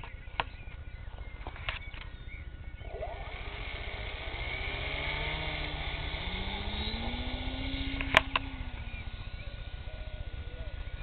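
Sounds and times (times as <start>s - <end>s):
electric motor propeller whine: 0.0s - 11.0s.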